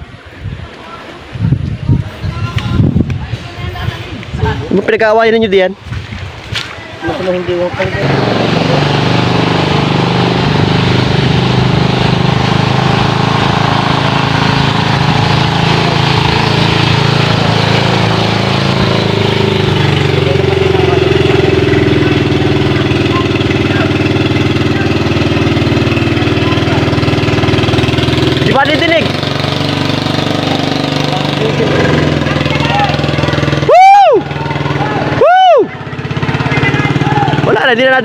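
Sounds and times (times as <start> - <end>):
small boat engine running: 7.4 - 38.0.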